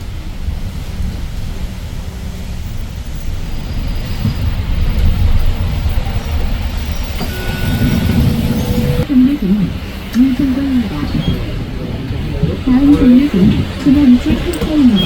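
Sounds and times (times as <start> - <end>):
bus engine rumbling: 0.0 - 15.0
road noise: 0.0 - 15.0.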